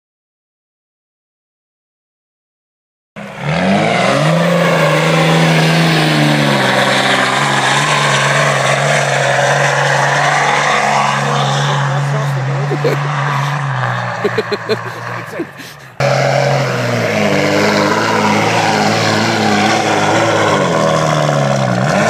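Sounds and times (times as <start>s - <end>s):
pickup truck engine revving high: 3.2s - 22.0s.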